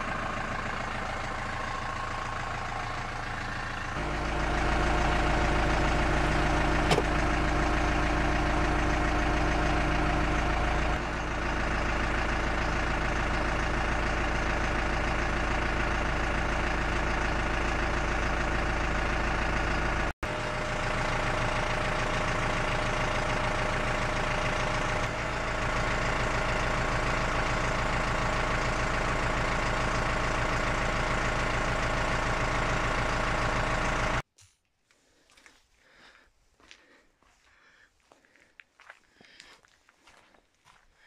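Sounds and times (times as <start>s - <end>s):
tractor diesel engine idling: 0.0s - 34.3s, 35.2s - 41.0s.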